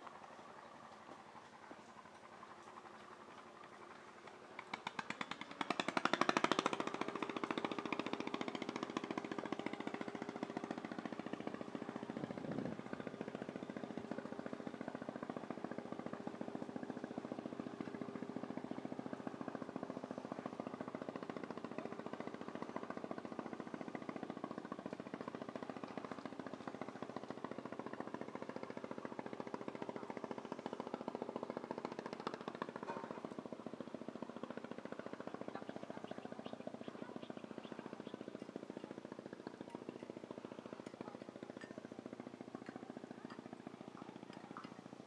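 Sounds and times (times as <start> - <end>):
motor chugging: 0.2 - 45.0.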